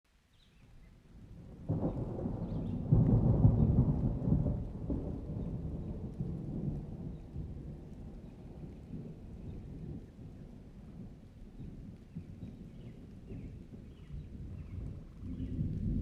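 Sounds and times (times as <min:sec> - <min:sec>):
rain: 0:00.1 - 0:16.0
rolling thunder: 0:01.3 - 0:16.0.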